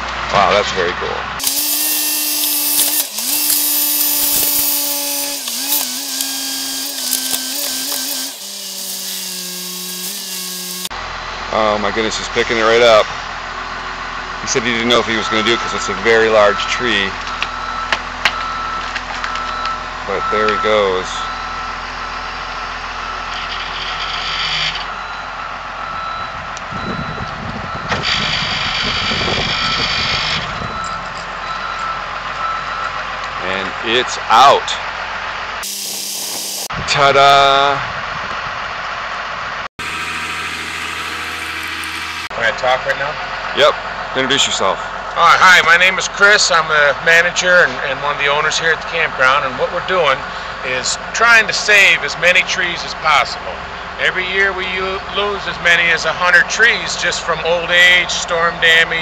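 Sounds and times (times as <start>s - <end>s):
loader engine and hydraulics whining: 0.0s - 59.0s.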